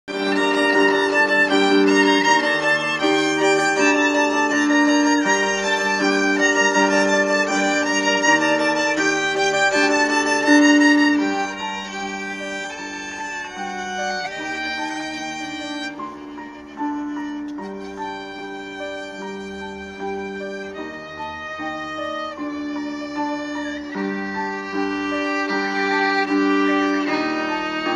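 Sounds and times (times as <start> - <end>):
solo violin melody: 0.0 - 27.9.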